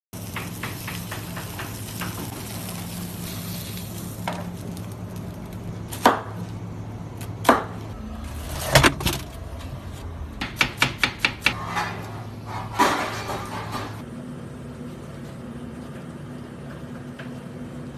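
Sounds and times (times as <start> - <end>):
steady low hum: 2.6 - 17.9.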